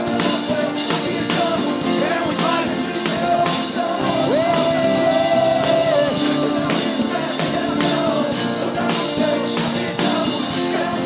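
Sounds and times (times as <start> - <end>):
acoustic band playing: 0.0 - 11.0.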